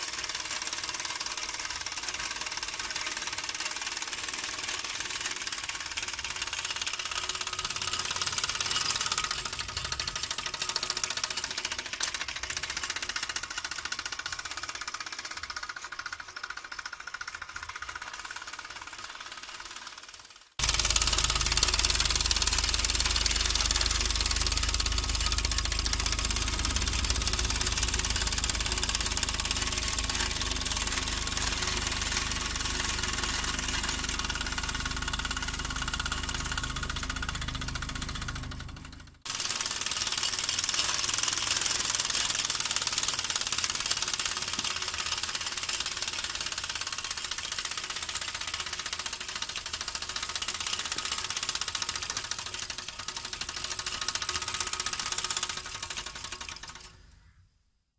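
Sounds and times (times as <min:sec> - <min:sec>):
toy steam engine chuffing: 0:00.0 - 0:57.2.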